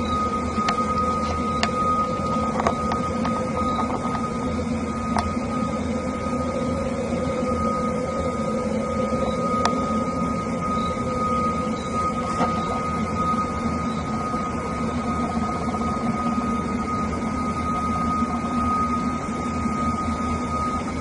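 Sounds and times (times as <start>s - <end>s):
droning hum of held tones: 0.0s - 21.0s.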